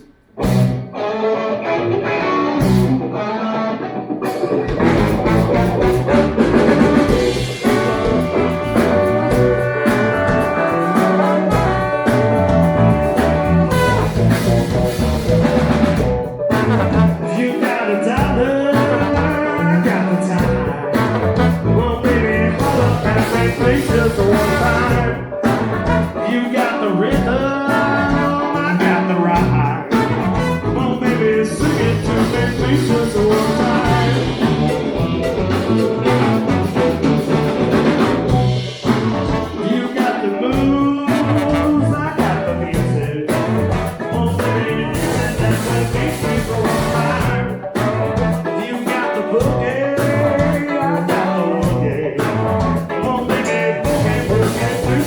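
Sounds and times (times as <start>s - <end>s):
live band playing: 0.0s - 55.0s
person singing: 4.2s - 14.6s, 15.7s - 55.0s.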